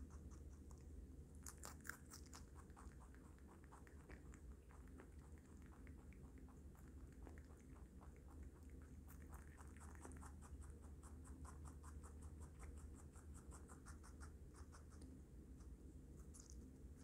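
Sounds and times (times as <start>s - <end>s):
rabbit crunching vegetables: 0.0s - 17.0s.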